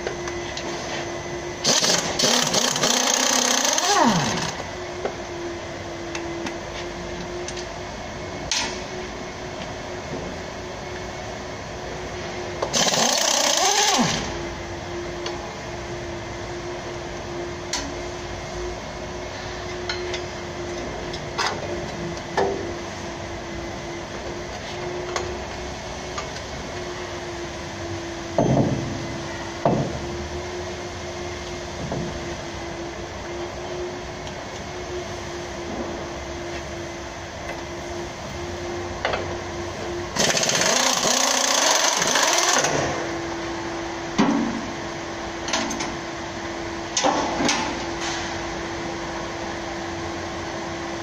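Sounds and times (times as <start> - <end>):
steady workshop hum: 0.0 - 51.0.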